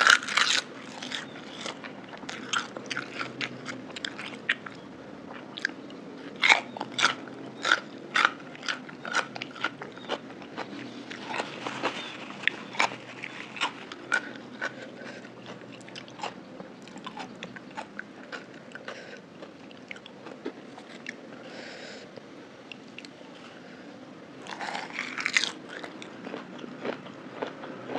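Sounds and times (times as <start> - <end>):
crisp chewing of cucumber: 0.0 - 21.5, 24.4 - 27.9.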